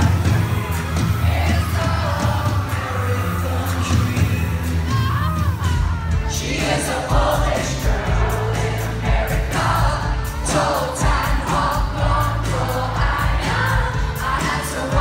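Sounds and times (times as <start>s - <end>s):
live pop band and singer: 0.0s - 15.0s.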